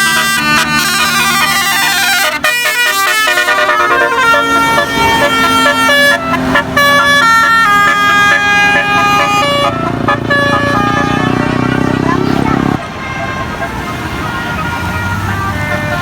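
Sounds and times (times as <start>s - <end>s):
multi-tone bus horn melody: 0.0s - 16.0s.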